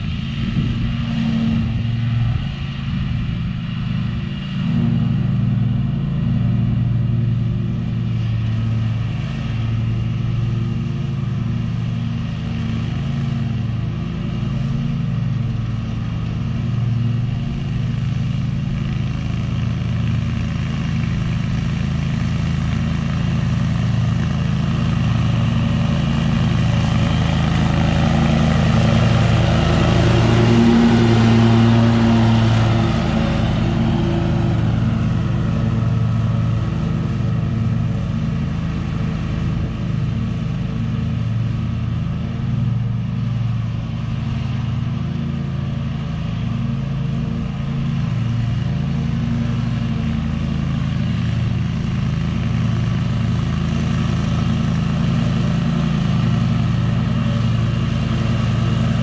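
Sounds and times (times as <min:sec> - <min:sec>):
zero-turn mower running: 0:00.0 - 0:59.0.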